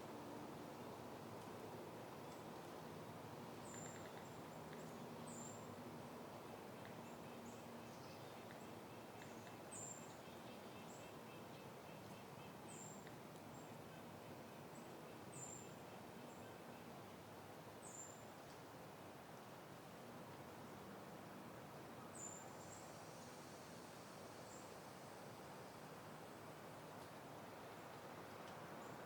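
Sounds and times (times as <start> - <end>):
light wind hiss: 0.0 - 29.0.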